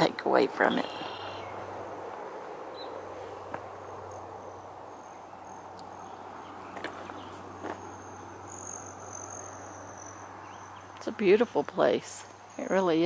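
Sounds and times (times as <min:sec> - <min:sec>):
crickets chirping: 0:00.0 - 0:13.0
low hum and hiss: 0:00.0 - 0:13.0.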